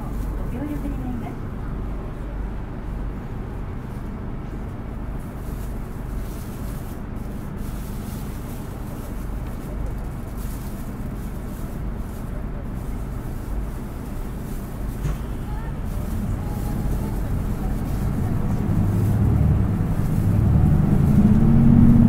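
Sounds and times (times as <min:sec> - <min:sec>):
bus diesel engine hum: 0:00.0 - 0:22.0
road noise: 0:00.0 - 0:22.0.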